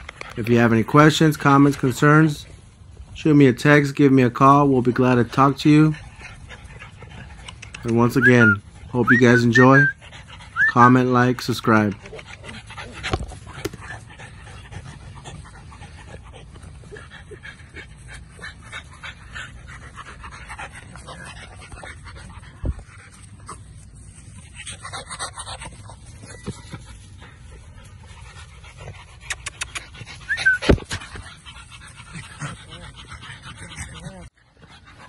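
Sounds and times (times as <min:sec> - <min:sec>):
puppy panting: 0:03.7 - 0:35.0.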